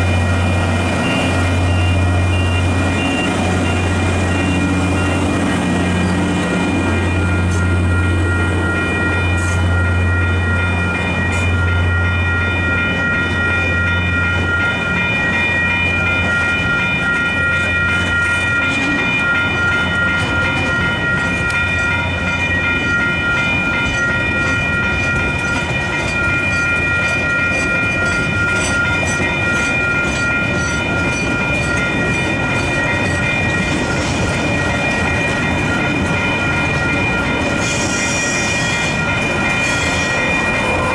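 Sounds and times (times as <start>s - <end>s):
diesel locomotive engine drone: 0.0s - 40.9s
level crossing warning bells: 0.0s - 40.9s.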